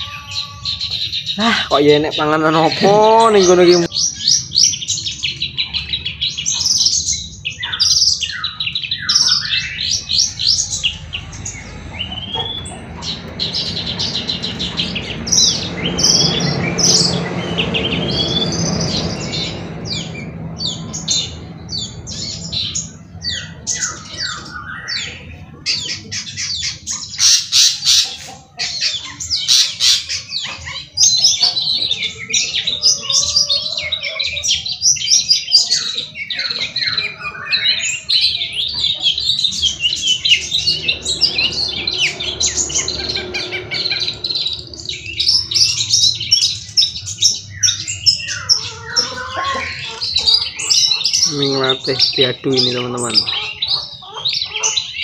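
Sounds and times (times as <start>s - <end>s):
birds chattering and calling: 0.0s - 55.0s.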